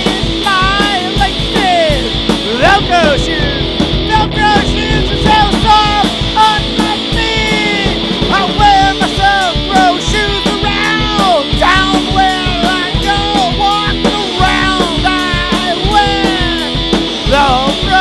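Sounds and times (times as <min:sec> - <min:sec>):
distorted guitar: 0:00.0 - 0:18.0
drums steady beat: 0:00.0 - 0:18.0
melodic line: 0:02.2 - 0:17.9.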